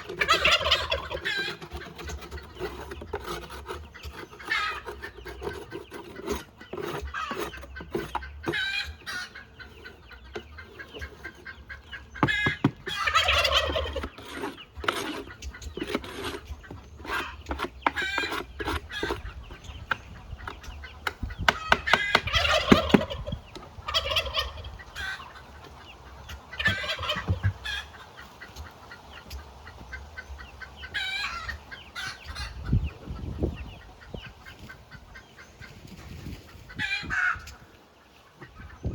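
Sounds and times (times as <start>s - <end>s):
turkey gobbling: 0.0s - 38.9s.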